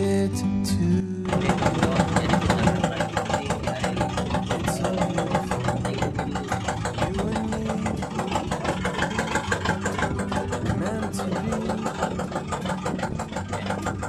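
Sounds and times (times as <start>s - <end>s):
engine idling with chugging: 1.3s - 14.0s.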